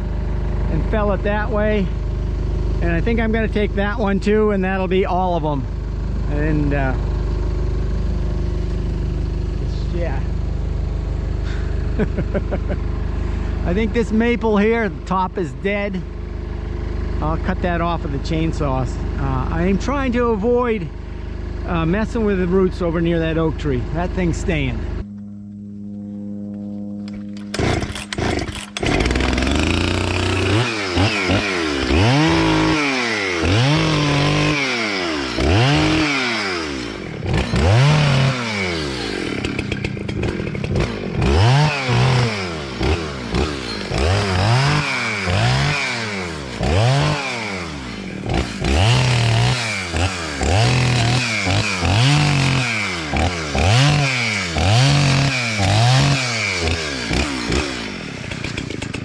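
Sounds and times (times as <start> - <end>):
chainsaw revving and cutting: 0.0 - 25.0, 27.4 - 59.0.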